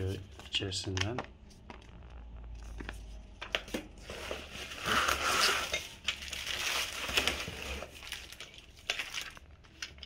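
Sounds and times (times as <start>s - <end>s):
plastic film crinkling: 0.0s - 10.0s.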